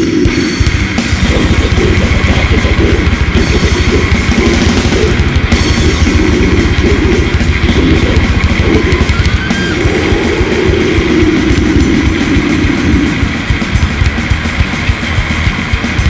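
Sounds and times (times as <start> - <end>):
fast dense drumming: 0.0 - 16.0
heavily distorted guitars: 0.0 - 16.0.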